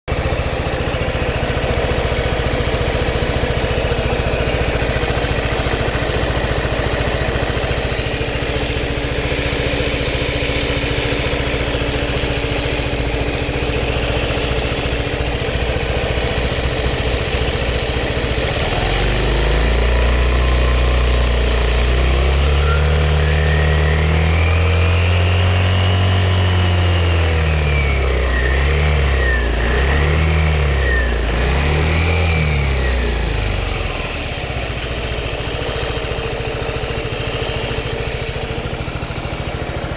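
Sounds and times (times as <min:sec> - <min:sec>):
scooter engine idling: 0:00.0 - 0:39.9
scooter engine revving: 0:00.0 - 0:39.9.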